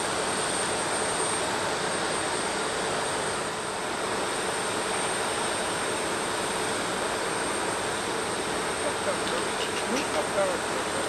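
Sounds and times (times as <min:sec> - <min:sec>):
jet engine rush: 0:00.0 - 0:11.0.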